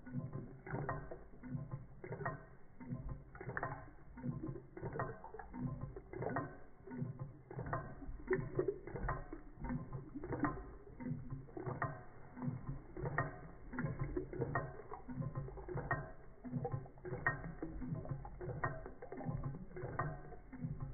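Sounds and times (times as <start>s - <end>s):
stirling engine linkage clacking: 0.0s - 20.9s.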